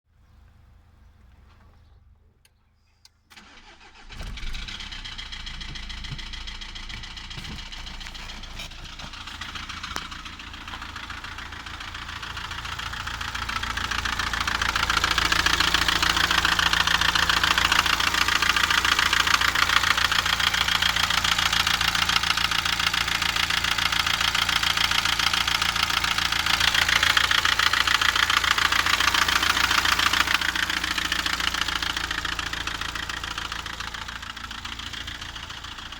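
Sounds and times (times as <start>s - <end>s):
diesel engine starting and knocking: 3.1s - 35.9s.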